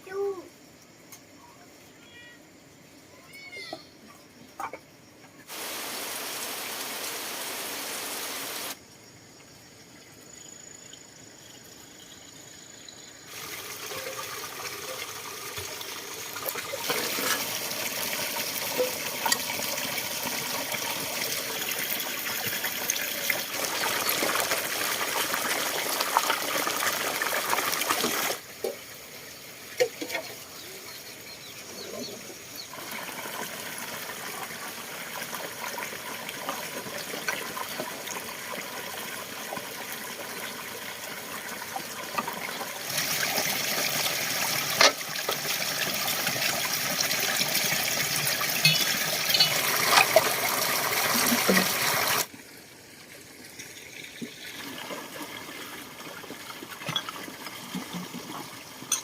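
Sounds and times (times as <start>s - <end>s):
water running and splashing: 5.5s - 8.8s, 13.2s - 59.0s.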